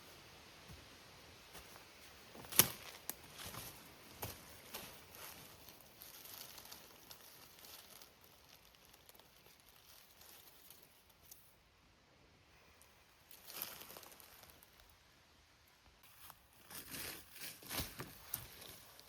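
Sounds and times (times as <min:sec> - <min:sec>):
faint rustling and crackling: 0:01.5 - 0:11.6, 0:12.7 - 0:15.0, 0:16.0 - 0:19.0.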